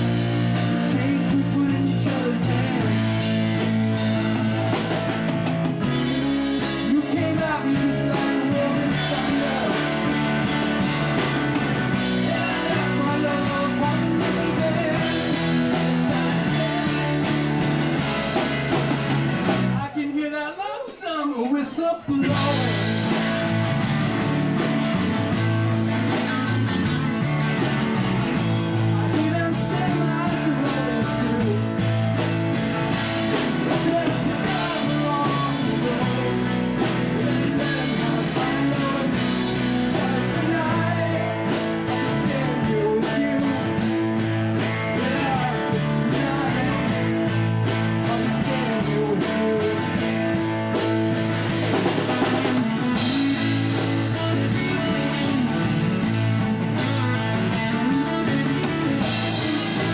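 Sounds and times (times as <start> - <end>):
rock band with singing: 0.0 - 59.9.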